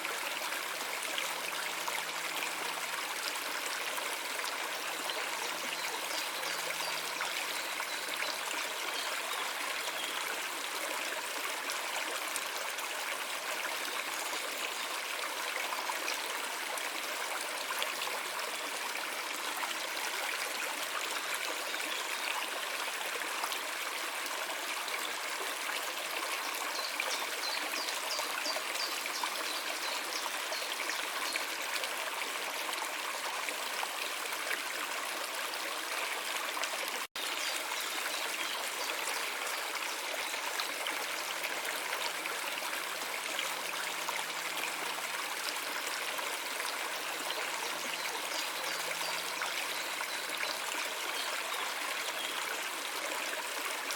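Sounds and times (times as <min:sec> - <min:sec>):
stream water running over stones: 0:00.0 - 0:53.9.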